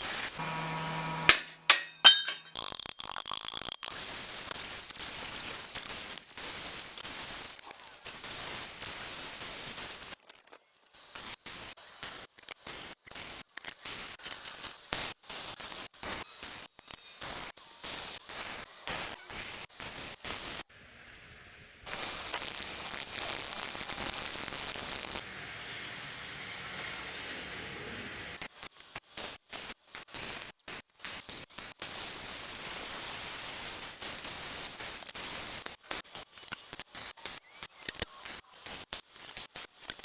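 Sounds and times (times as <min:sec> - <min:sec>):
welding crackle: 0:00.0 - 0:00.5, 0:01.3 - 0:20.7, 0:21.9 - 0:25.2, 0:28.4 - 0:40.0.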